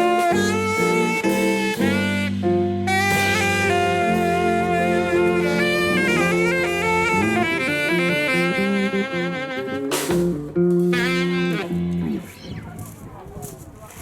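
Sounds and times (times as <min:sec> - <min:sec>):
band accented hits: 0:00.0 - 0:12.8
live band playing: 0:00.0 - 0:13.2.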